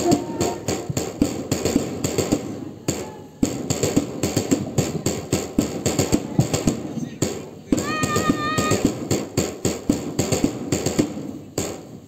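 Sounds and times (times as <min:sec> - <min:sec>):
drum beating a march rhythm: 0:00.0 - 0:12.0.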